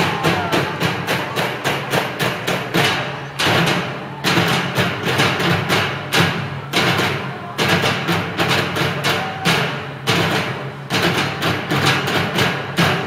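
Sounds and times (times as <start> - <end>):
drumming on plastic barrels: 0.0 - 13.0.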